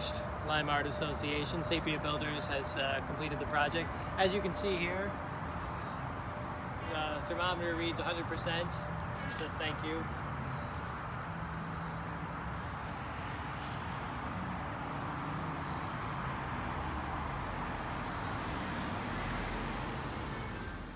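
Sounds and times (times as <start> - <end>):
distant road traffic hum: 0.0 - 20.9.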